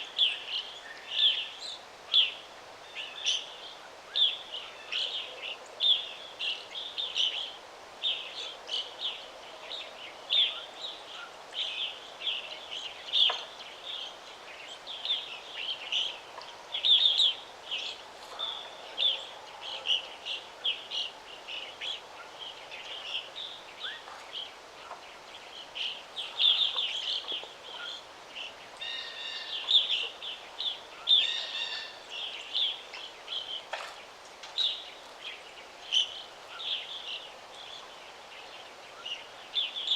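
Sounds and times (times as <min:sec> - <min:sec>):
faint steady hiss: 0:00.0 - 0:39.9
songbirds chirping: 0:00.0 - 0:39.9.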